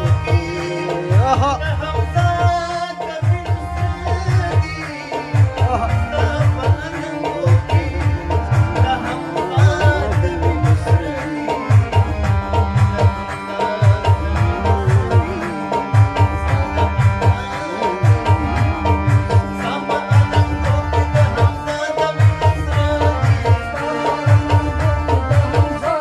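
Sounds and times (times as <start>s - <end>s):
harmonium melody: 0.0s - 26.0s.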